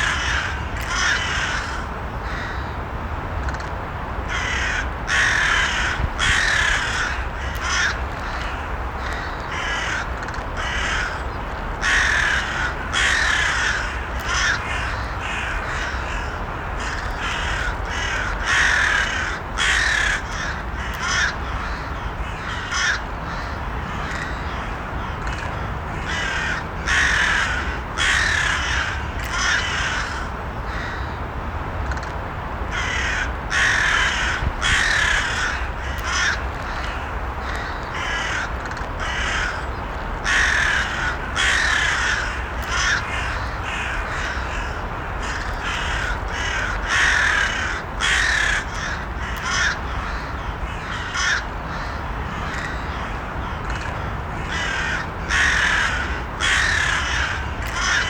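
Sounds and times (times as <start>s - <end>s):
crows cawing: 0.0s - 2.8s, 4.3s - 31.2s, 32.7s - 58.0s
low background noise: 0.0s - 58.0s.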